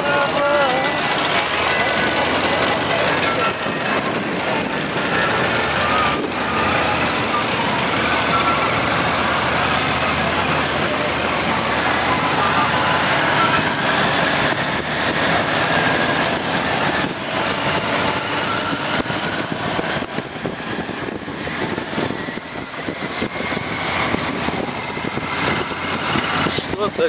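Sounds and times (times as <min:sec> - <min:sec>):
motorcycle engine running: 0:00.0 - 0:27.0
other motorcycles riding: 0:00.0 - 0:27.0
wind noise on microphone: 0:00.0 - 0:27.0.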